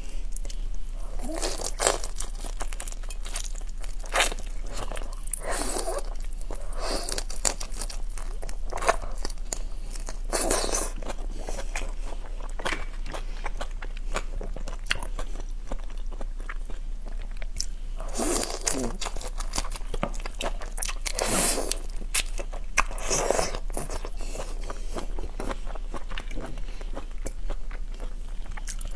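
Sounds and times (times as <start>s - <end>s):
low steady hum: 0.0s - 28.9s
chewing shrimp shells crunching: 0.3s - 28.9s.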